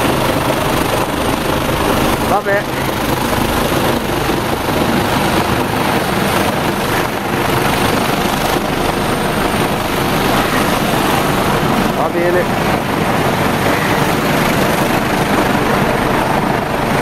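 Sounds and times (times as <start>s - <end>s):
helicopter engine noise: 0.0s - 17.0s
helicopter rotor beating: 0.0s - 17.0s.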